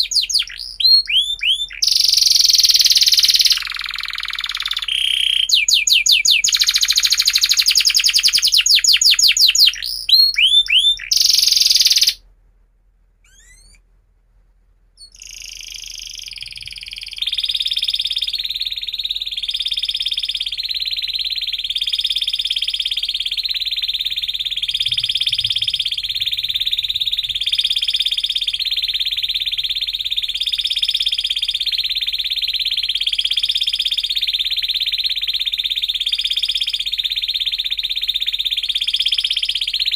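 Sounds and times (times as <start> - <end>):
canary singing trills: 0.0 - 12.2, 13.2 - 13.8, 15.0 - 39.9.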